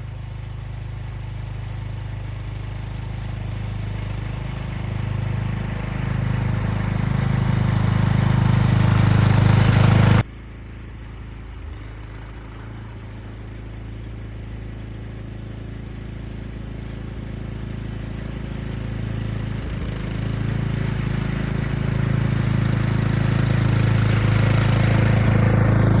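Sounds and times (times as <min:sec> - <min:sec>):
lawn tractor engine running: 0:00.0 - 0:26.0.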